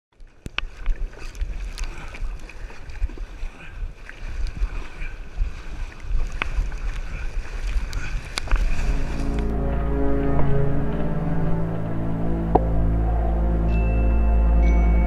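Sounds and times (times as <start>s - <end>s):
paddle splashing water: 0.1s - 15.0s
wind buffeting microphone: 0.6s - 14.1s.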